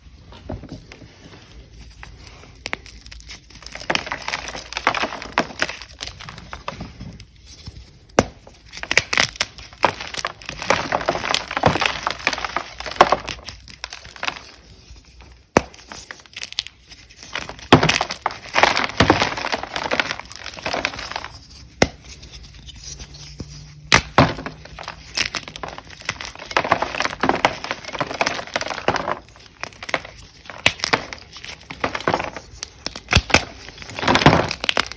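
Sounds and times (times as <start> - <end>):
chalk blocks crunching: 1.0 - 34.9.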